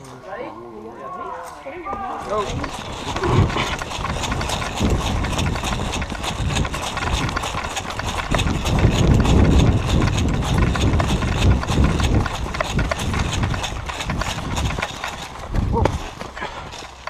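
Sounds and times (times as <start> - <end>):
gear and rifle rattling: 1.5 - 17.0
running footsteps on grass: 1.8 - 17.0.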